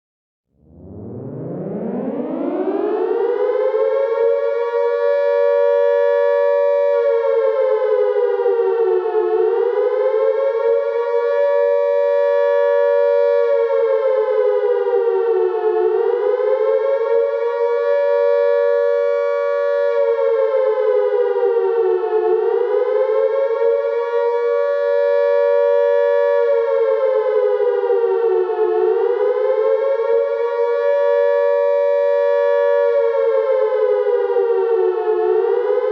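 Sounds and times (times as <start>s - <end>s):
air raid siren wailing: 0.6s - 35.9s.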